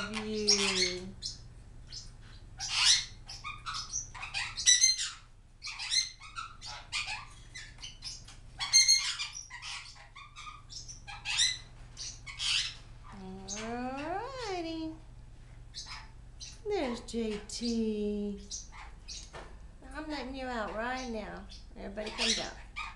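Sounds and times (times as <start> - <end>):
parrots chirping and squawking: 0.0 - 17.8, 18.4 - 19.5, 20.5 - 22.9.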